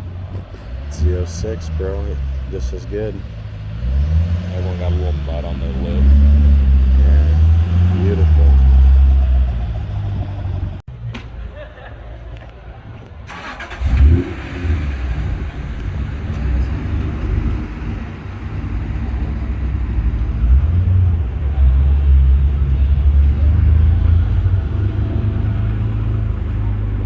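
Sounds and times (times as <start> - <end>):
car engine revving and rumbling: 0.0 - 10.9, 13.3 - 27.0.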